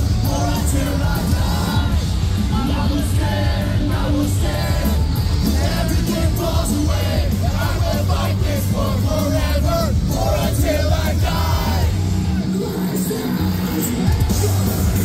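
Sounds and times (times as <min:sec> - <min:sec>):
pounding drums: 0:00.0 - 0:12.3
electric guitars: 0:00.0 - 0:15.0
yelled and sung vocals: 0:00.0 - 0:15.0.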